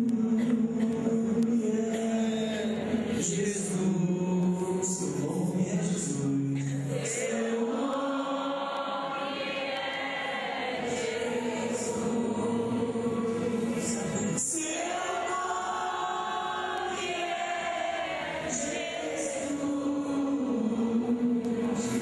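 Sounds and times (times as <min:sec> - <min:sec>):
choir singing worship music: 0:00.4 - 0:22.0.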